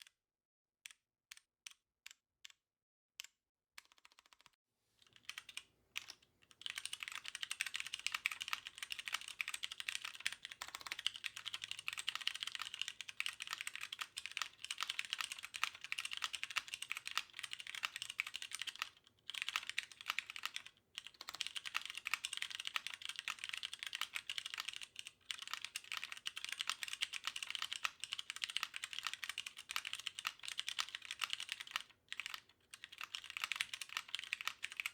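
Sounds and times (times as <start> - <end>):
typing on mechanical keyboard: 3.8 - 4.5, 5.1 - 34.9.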